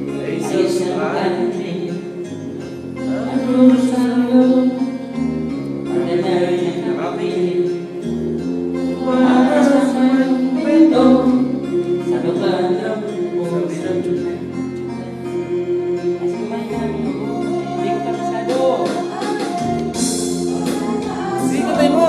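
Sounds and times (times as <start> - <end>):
person singing: 0.0 - 5.1, 5.8 - 8.0, 8.8 - 22.0
karaoke music: 0.0 - 22.0.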